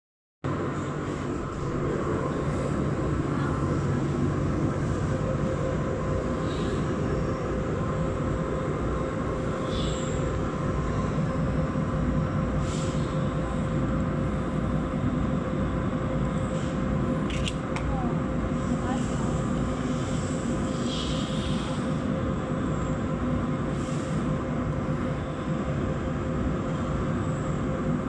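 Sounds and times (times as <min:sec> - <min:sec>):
machinery hum and rumble: 0:00.4 - 0:28.0.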